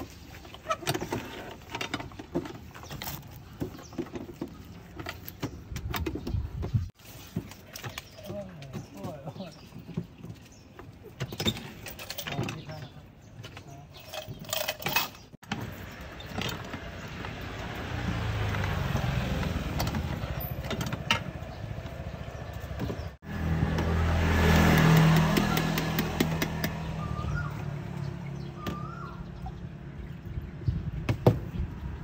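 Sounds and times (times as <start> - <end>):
street traffic rumble: 0.0 - 32.0.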